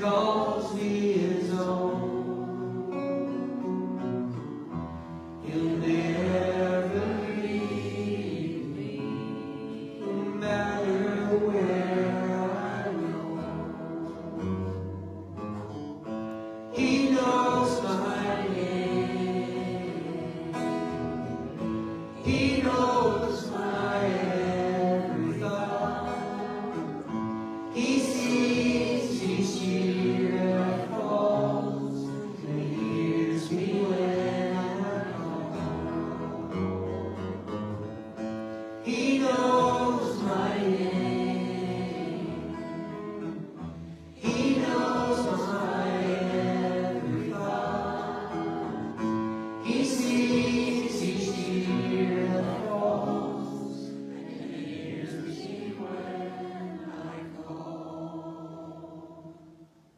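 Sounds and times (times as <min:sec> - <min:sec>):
group singing gospel song: 0:00.0 - 0:04.0, 0:05.2 - 0:15.7, 0:16.4 - 0:59.7.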